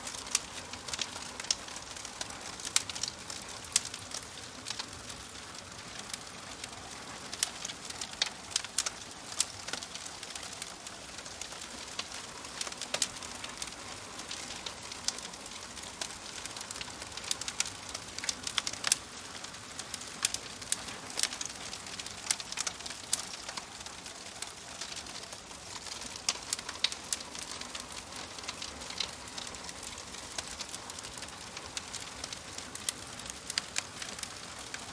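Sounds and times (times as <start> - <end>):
fireplace fire crackling: 0.0 - 34.9.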